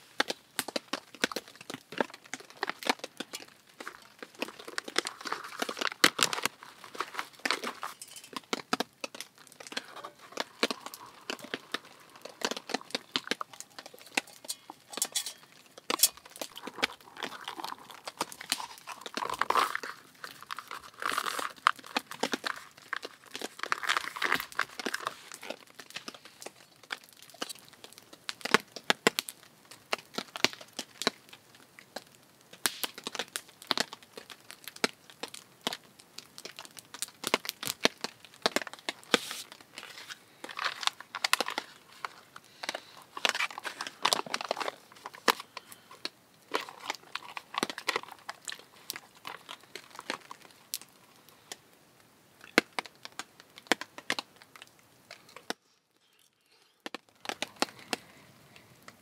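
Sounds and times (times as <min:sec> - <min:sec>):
food pouch crinkling: 0:00.2 - 0:29.4, 0:32.6 - 0:51.6, 0:52.4 - 0:58.2.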